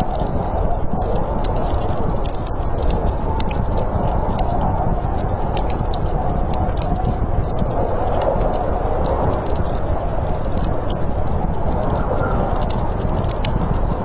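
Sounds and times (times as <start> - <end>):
snowstorm wind rushing: 0.0 - 14.0
wood fire crackling and popping: 0.0 - 14.0.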